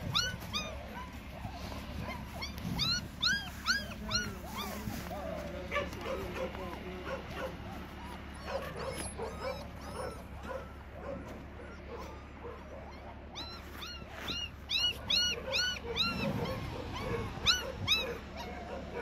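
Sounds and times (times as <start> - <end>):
puppies squealing and whimpering: 0.0 - 19.0.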